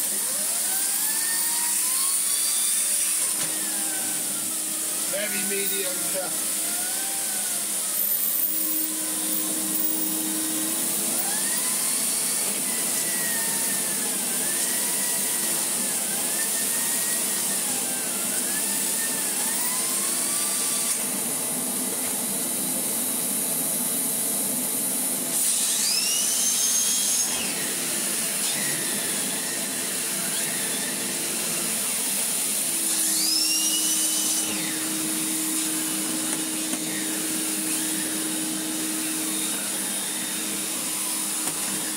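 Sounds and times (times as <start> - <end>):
vacuum cleaner on carpet: 0.0 - 41.9.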